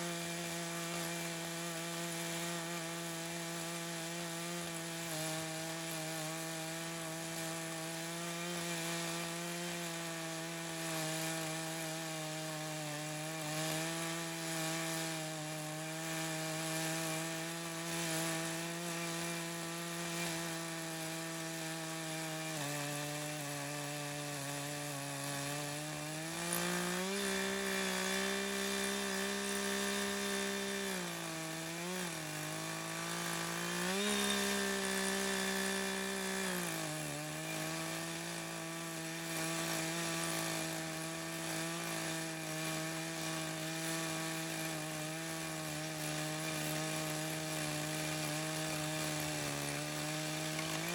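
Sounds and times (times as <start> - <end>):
chainsaw cutting wood at high revs: 0.0 - 50.9.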